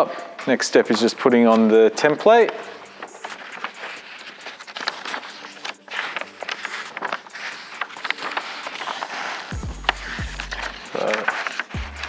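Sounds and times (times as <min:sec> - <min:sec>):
paper rustling and crinkling: 0:00.4 - 0:12.0.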